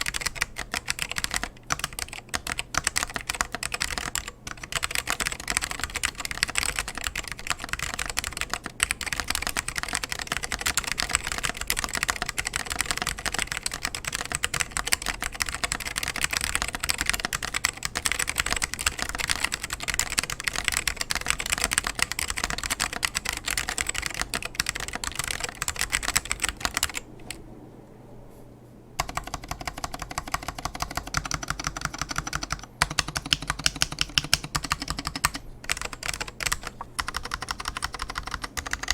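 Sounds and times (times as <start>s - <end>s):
mechanical keyboard typing: 0.0s - 27.4s, 29.0s - 38.9s.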